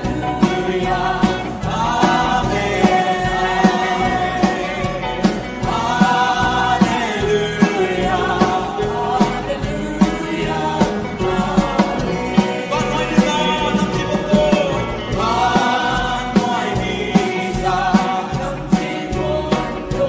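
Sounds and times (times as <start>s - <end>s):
steady drum beat: 0.0s - 20.0s
voices singing held notes: 0.0s - 20.0s.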